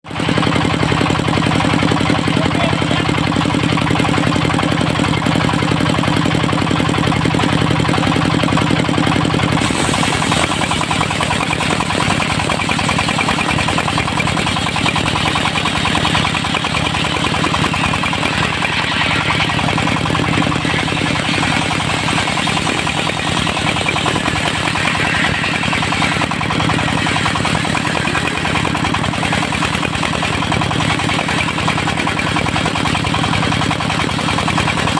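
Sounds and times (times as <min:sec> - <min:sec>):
sawmill engine running: 0:00.0 - 0:34.9.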